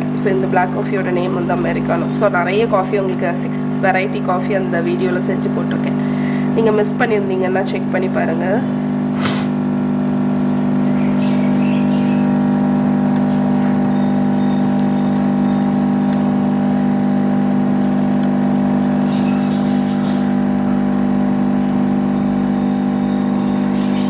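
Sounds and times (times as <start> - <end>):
espresso machine pump buzzing: 0.0 - 24.0.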